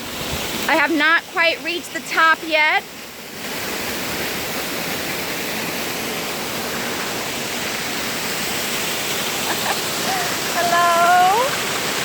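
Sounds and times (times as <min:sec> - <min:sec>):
waterfall roar: 0:00.0 - 0:12.0.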